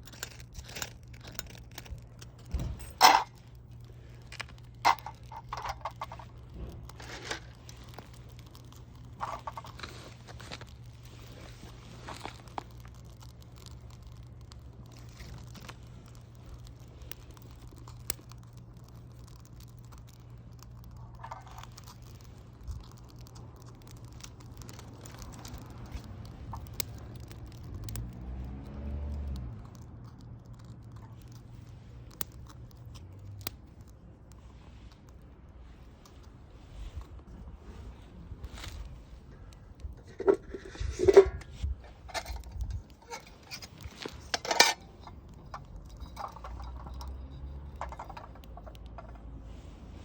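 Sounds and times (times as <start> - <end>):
campfire crackling: 0.0 - 50.0.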